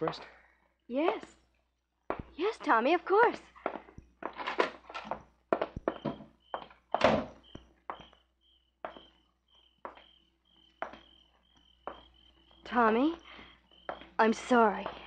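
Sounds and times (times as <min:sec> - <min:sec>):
crickets chirping: 0:00.8 - 0:15.0
thunks and footsteps: 0:02.1 - 0:08.2, 0:08.8 - 0:15.0.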